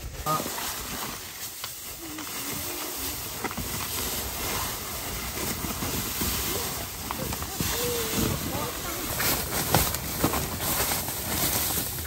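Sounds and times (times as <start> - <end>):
foil mat crinkling: 0.0 - 12.0
wind: 0.0 - 12.0.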